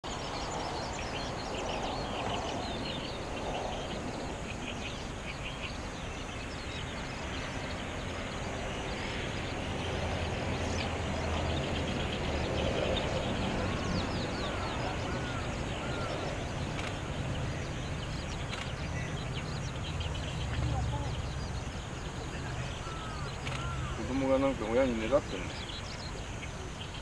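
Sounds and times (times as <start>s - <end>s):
terns chirping: 0.0s - 27.0s.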